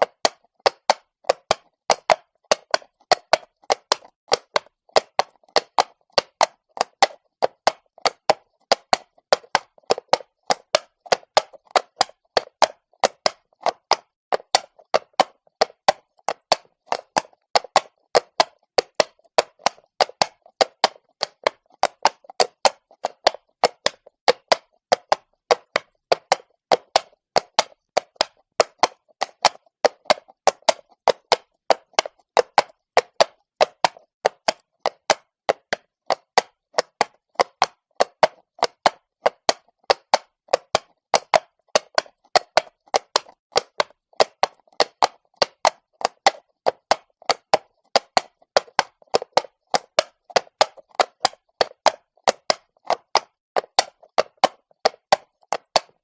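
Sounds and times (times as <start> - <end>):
horse hooves on cobblestones: 0.0 - 56.0.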